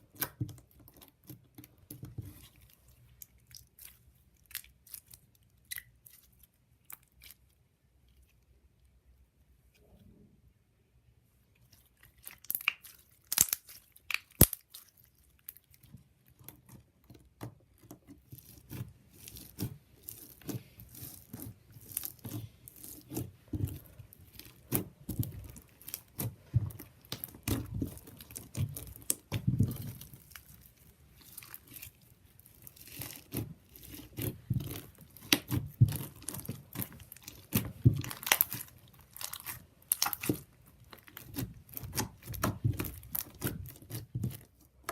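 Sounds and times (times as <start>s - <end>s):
hands squishing slime: 0.0s - 8.5s, 11.6s - 44.9s.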